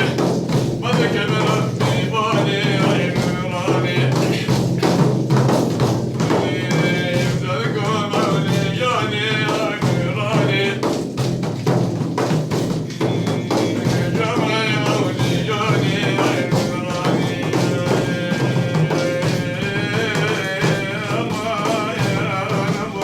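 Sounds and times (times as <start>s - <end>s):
frame drum beats: 0.0s - 23.0s
man singing devotional song: 0.0s - 23.0s.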